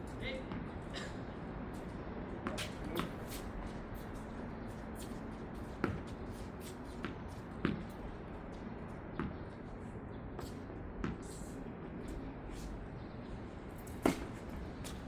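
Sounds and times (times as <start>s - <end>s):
shoes shuffling on court: 0.0s - 12.9s, 13.8s - 15.0s.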